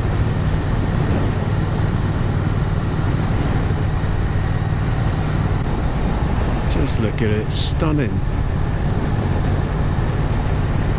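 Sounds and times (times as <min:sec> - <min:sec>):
motorcycle engine cruising: 0:00.0 - 0:10.9
road and wind noise: 0:00.0 - 0:10.9.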